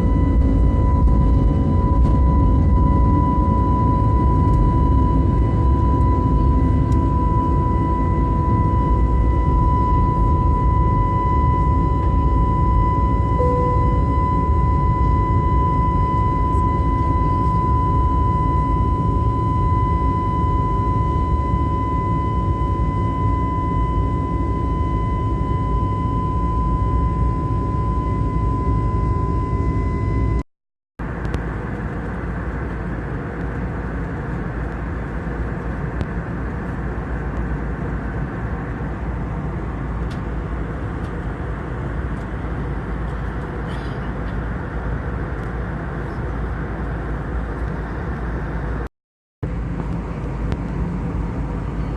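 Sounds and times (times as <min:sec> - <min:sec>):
airliner engine drone: 0:00.0 - 0:30.4, 0:31.0 - 0:51.9.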